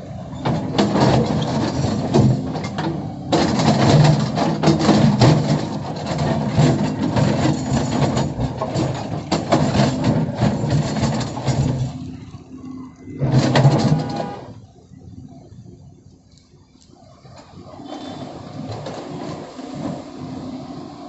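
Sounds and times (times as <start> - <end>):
excavator diesel engine under load: 0.0 - 21.0.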